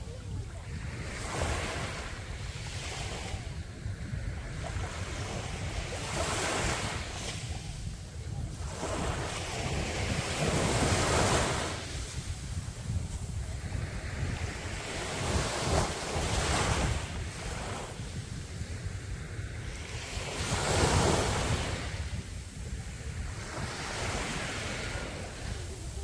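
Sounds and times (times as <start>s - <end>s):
sea waves breaking on beach: 0.0s - 26.0s
wind rumble on microphone: 0.0s - 26.0s.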